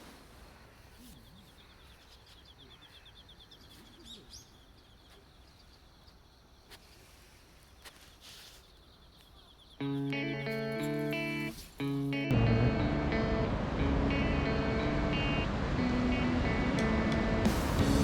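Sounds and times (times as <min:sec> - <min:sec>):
birds chirping: 0:00.7 - 0:18.0.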